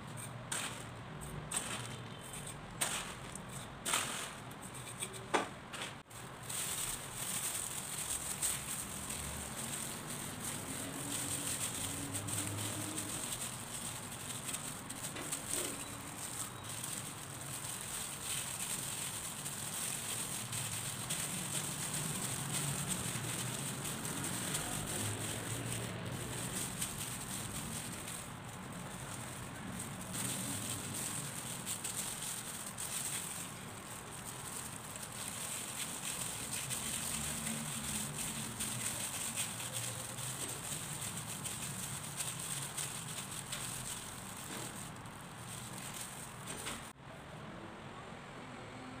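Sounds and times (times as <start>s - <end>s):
plastic gloves crinkling: 0.0s - 47.0s
soft squishing: 6.0s - 47.0s.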